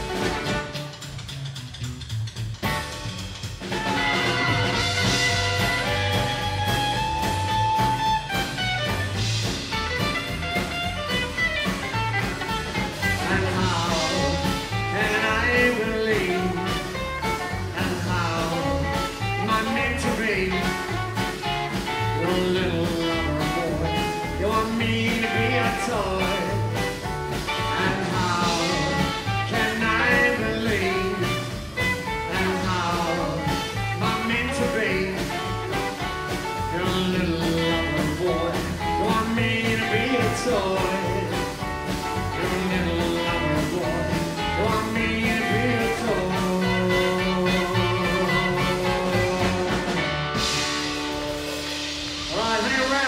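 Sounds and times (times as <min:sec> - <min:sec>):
drum kit steady beat: 0:00.0 - 0:53.0
live band playing: 0:00.0 - 0:53.0
acoustic guitar: 0:02.6 - 0:53.0.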